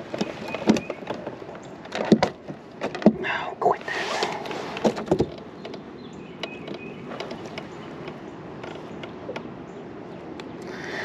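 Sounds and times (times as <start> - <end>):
rushing wind and water: 0.0 - 11.0.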